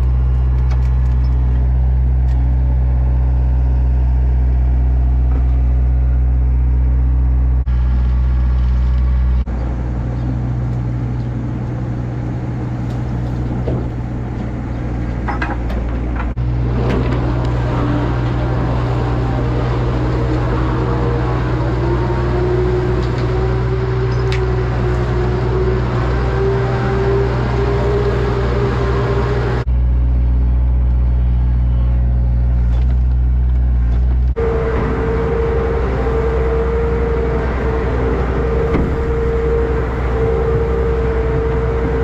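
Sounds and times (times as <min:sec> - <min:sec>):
farm machinery diesel engine: 0:00.0 - 0:42.0.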